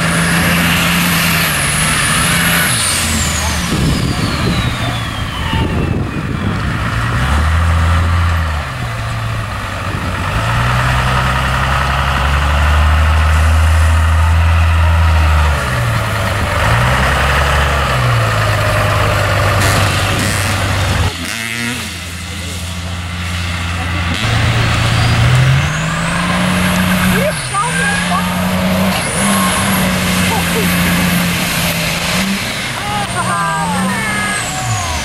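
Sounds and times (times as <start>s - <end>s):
truck engine revving: 0.0s - 35.0s.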